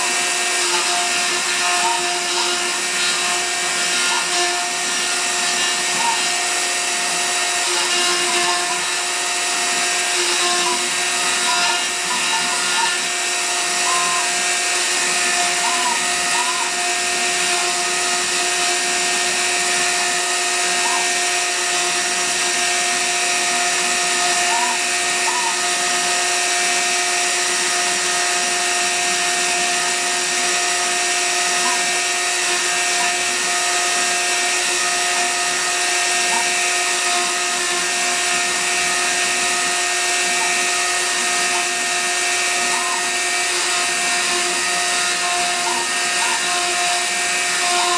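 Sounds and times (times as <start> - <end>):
router spindle motor whine: 0.0 - 47.9.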